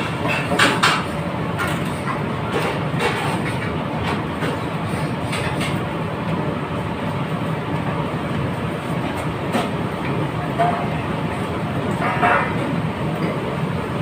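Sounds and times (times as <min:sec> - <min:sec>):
kitchen machinery roaring: 0:00.0 - 0:14.0.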